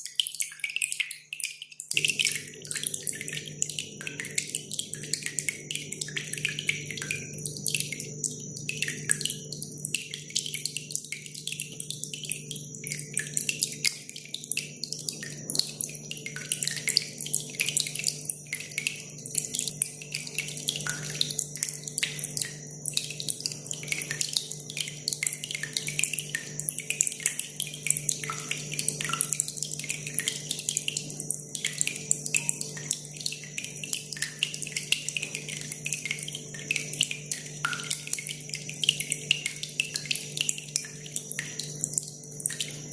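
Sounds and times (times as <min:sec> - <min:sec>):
water dripping and trickling: 0:00.0 - 0:42.9.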